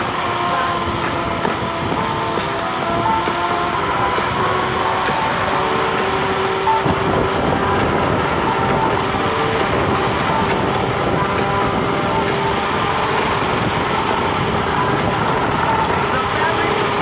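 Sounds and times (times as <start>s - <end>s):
electric motor whine: 0.0s - 17.0s
wind and road noise: 0.0s - 17.0s.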